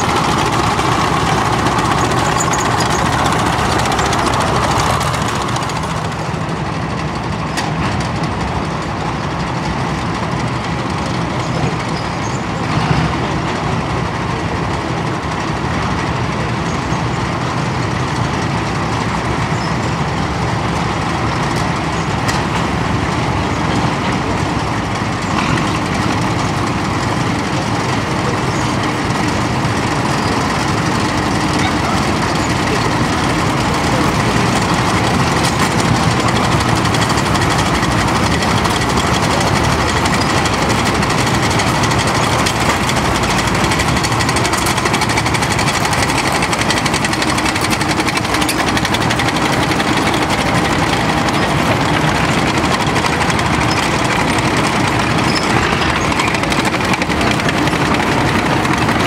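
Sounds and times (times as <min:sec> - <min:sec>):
military vehicles driving past: 0:00.0 - 0:59.0.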